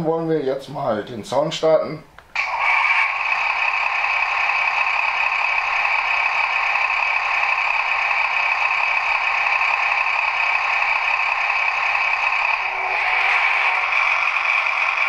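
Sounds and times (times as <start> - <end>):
thin diesel engine drone from speaker: 2.4 - 15.0.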